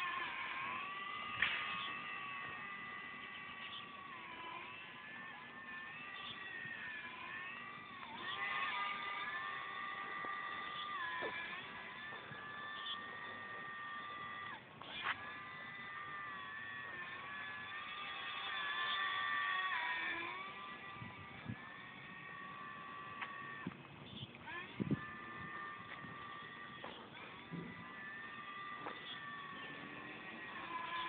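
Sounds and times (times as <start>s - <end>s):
model airplane motor whining: 0.0s - 31.0s.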